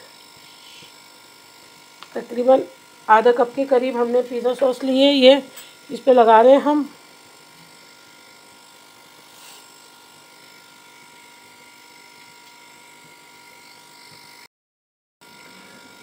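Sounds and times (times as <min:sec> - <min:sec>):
electrical hum with high tones: 0:00.0 - 0:14.5, 0:15.2 - 0:16.0.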